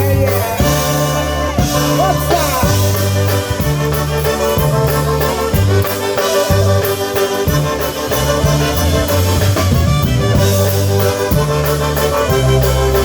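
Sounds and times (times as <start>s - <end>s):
polka band playing: 0.0s - 13.0s.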